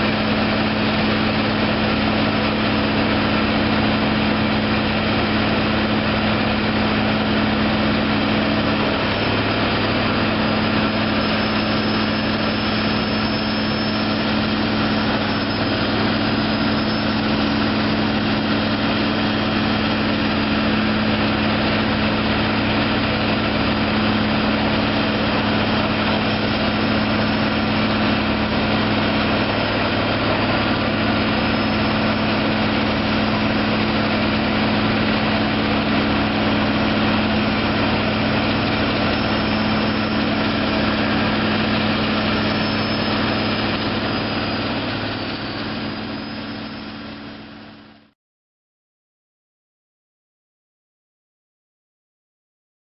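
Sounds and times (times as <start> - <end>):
diesel engine running steadily: 0.0 - 48.1.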